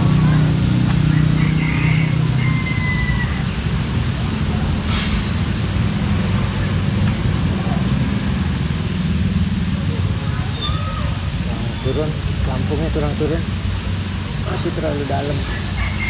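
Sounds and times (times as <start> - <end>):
faint voices: 0.0 - 13.5
pond aerators spraying water: 0.0 - 16.0.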